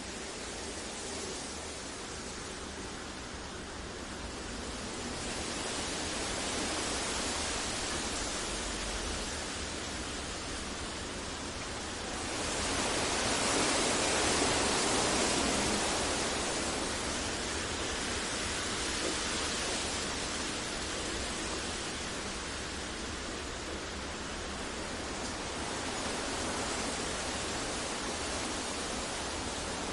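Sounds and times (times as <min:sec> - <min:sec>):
rushing hiss noise: 0:00.0 - 0:29.9.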